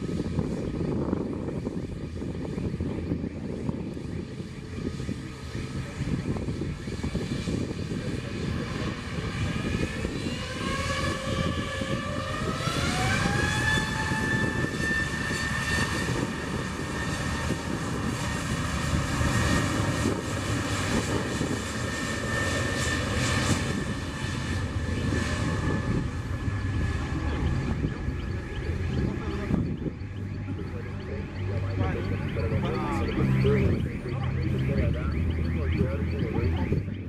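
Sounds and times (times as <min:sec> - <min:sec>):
jet engines spooling up: 0:00.0 - 0:37.0
loud engine rumble: 0:00.0 - 0:37.0.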